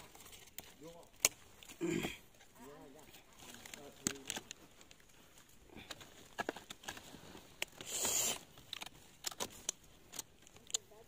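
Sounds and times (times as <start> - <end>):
twigs snapping: 0.0 - 2.6, 3.3 - 11.0
leaves and twigs rustling: 0.0 - 11.0.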